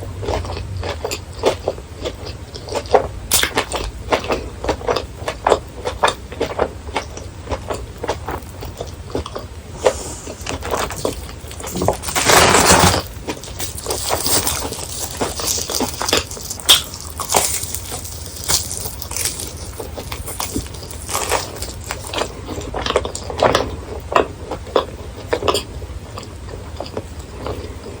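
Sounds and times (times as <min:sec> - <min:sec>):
crunching and chewing food: 0:00.0 - 0:28.0.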